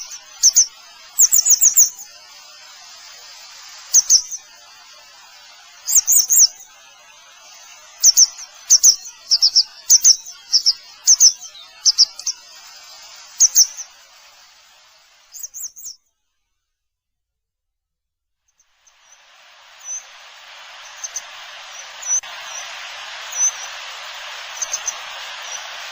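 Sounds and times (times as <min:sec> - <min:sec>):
steady hiss: 0:00.0 - 0:16.0, 0:18.5 - 0:25.9
wagtail chirping: 0:00.0 - 0:16.0, 0:18.6 - 0:25.9.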